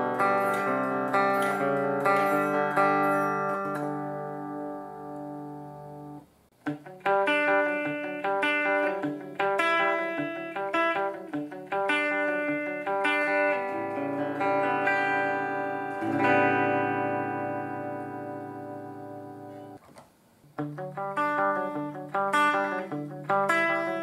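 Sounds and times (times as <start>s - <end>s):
clean electric guitar: 0.0s - 24.0s.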